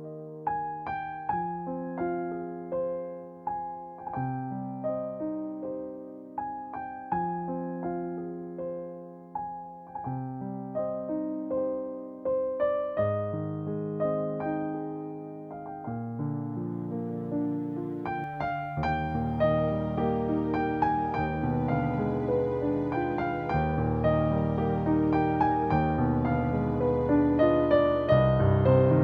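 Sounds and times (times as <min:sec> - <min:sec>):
gentle electric piano piece: 0:00.0 - 0:29.0.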